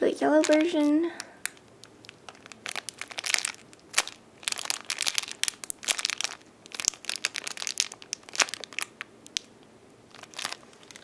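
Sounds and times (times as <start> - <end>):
plastic packaging crinkling: 0.3 - 11.0.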